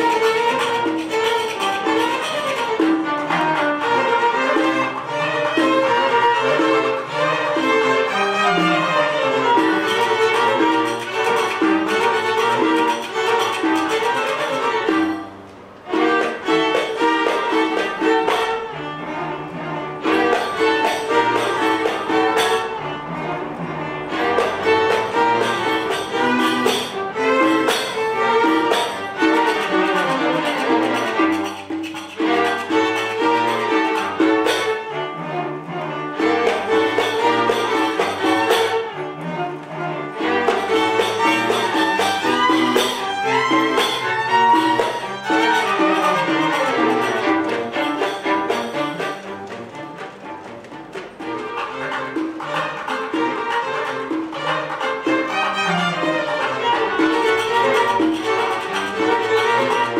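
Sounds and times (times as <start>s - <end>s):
string quartet playing: 0.0s - 59.9s.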